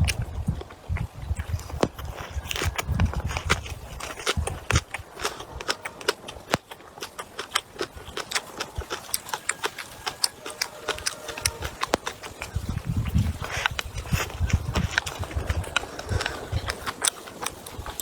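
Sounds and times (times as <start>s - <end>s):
chewing and gnawing: 0.0s - 18.0s
sharp wet clicks and crunches: 0.0s - 18.0s.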